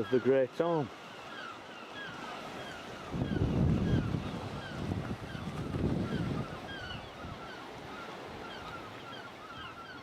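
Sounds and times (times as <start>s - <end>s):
sea waves breaking: 0.0s - 10.0s
seabirds calling: 0.0s - 10.0s
wind: 0.0s - 10.0s.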